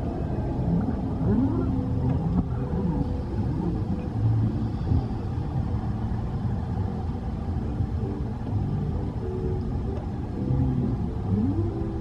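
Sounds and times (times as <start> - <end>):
boat low rumble: 0.0 - 12.0
faint whining tones: 0.0 - 12.0.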